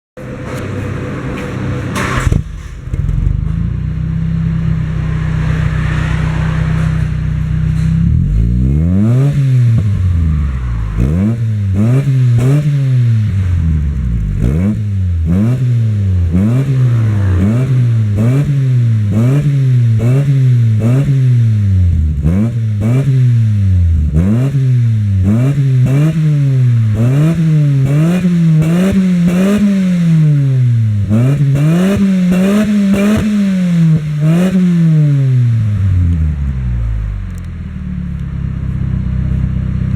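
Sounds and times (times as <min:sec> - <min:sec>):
car engine idling and revving: 0:00.2 - 0:39.9.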